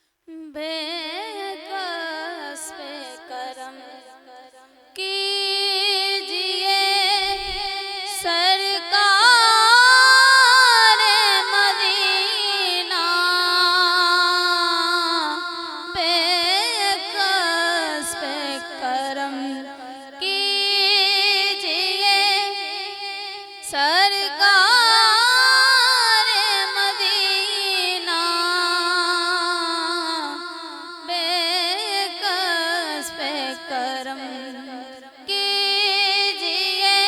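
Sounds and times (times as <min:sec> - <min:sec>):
woman singing wordlessly: 0:00.3 - 0:37.0.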